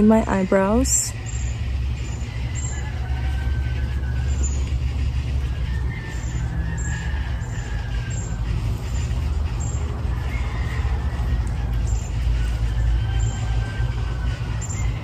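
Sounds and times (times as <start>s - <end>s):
low rumble of outdoor noise: 0.0s - 15.0s.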